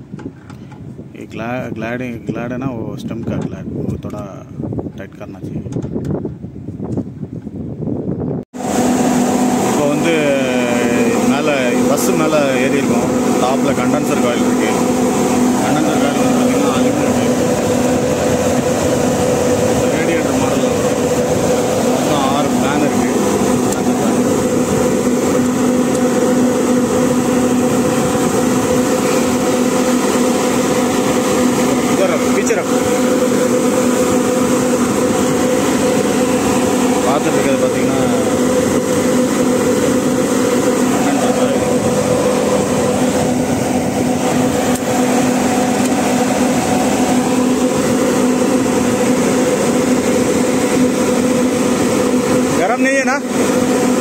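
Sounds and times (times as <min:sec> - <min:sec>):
air conditioning unit humming: 0:07.3 - 0:54.0.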